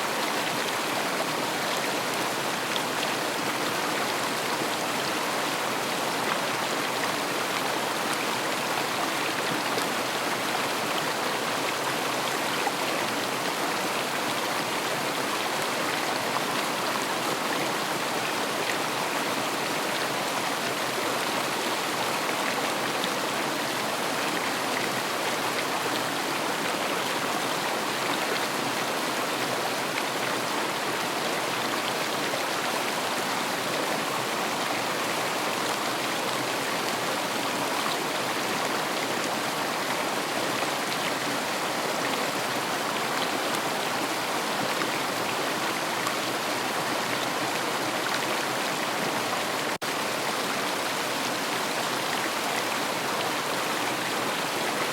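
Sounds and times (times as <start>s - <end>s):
river water flowing over stones: 0.0s - 54.9s.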